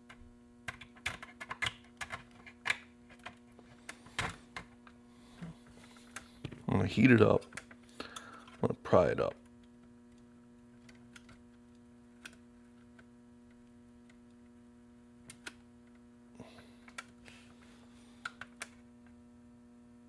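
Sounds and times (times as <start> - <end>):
hot stapler electrical hum: 0.0 - 20.0.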